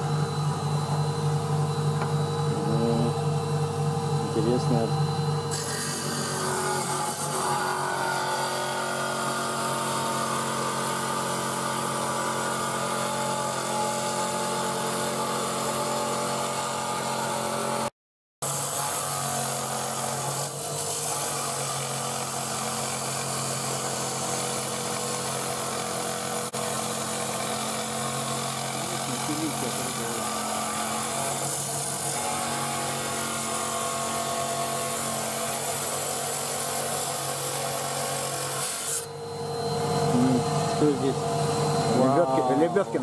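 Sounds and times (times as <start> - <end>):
stone-cutting saw running: 0.0 - 43.0.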